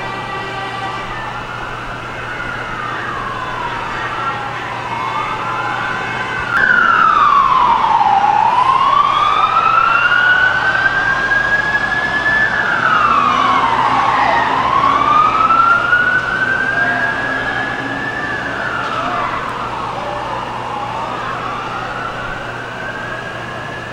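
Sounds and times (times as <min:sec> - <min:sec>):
emergency siren wailing: 0:00.0 - 0:23.9
fainter second siren: 0:00.0 - 0:23.9.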